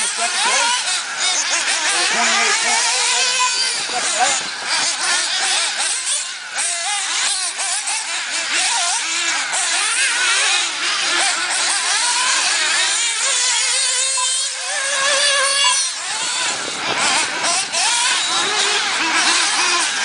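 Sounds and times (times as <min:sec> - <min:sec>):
rc car engines whining and revving: 0:00.0 - 0:20.0.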